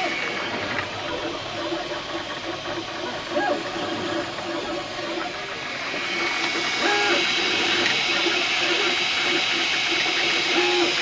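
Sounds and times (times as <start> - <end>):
cooling fans rushing: 0.0 - 11.0
stepper motors whining: 0.0 - 11.0.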